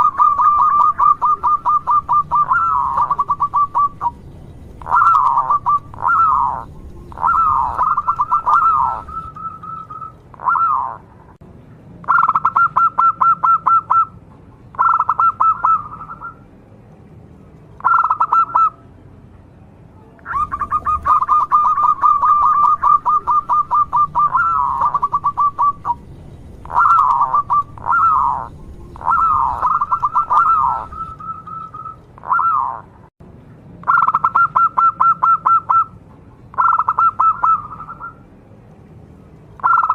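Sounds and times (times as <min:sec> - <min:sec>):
dove cooing trills: 0:00.0 - 0:11.4, 0:12.0 - 0:14.2, 0:14.8 - 0:16.4, 0:17.8 - 0:18.8, 0:20.2 - 0:33.0, 0:33.8 - 0:38.3, 0:39.6 - 0:39.9.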